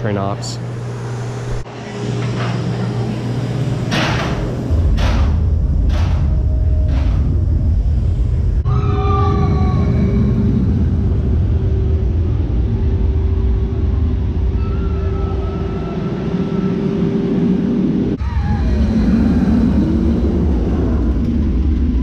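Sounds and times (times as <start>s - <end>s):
high whine: 0.0s - 22.0s
roller coaster rumbling on track: 0.0s - 22.0s.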